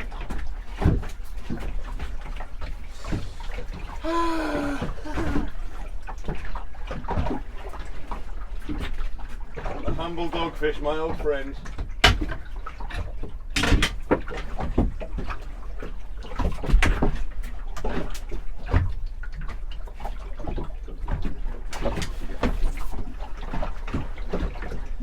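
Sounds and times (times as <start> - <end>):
knocks and clatter on a boat: 0.0 - 25.0.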